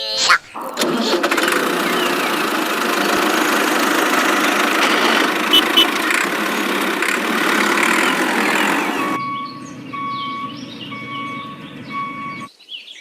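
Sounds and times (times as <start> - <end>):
tractor engine idling: 0.5 - 12.5.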